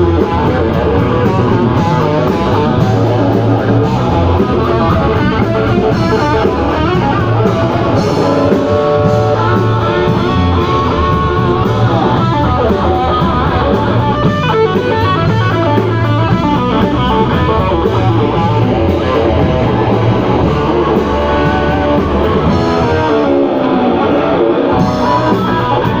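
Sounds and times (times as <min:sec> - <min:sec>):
instrumental rock music: 0:00.0 - 0:26.0.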